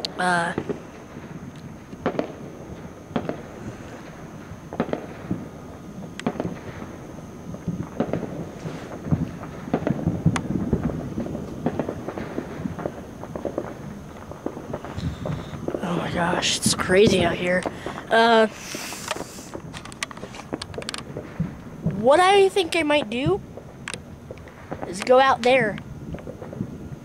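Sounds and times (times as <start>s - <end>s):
fireworks popping and crackling: 0.0s - 27.0s.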